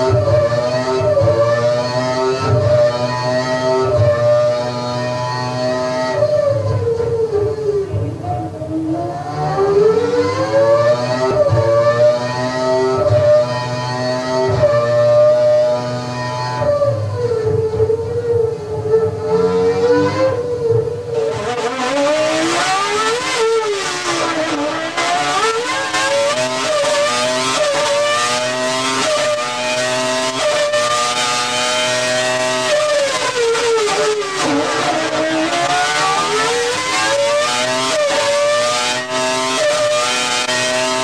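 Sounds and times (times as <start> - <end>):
racing engine at high revs: 0.0 - 41.0.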